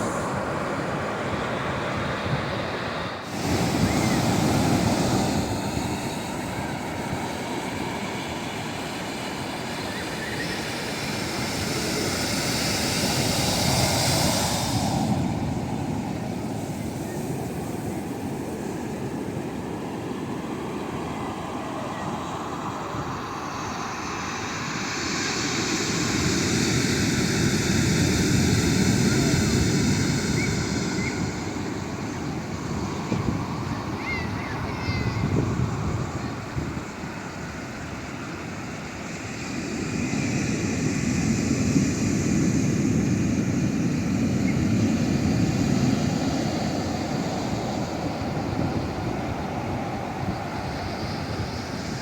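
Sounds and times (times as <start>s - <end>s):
ocean waves washing ashore: 0.0s - 52.0s.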